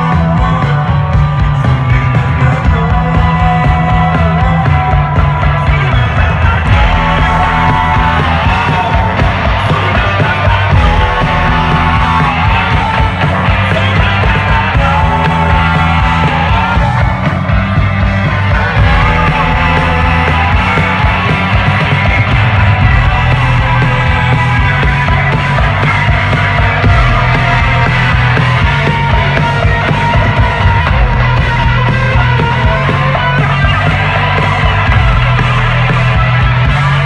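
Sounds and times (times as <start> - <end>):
heavy bass: 0.0 - 37.0
live rock band playing: 0.0 - 37.0
person singing: 0.0 - 37.0.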